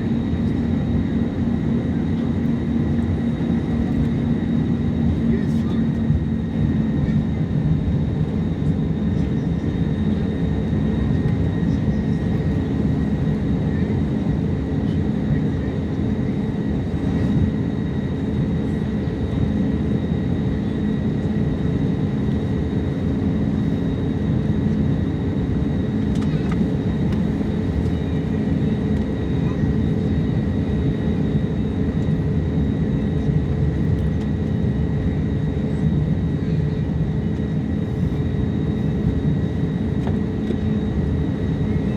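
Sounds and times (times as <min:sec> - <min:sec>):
low rumble of jet engines: 0:00.0 - 0:41.9.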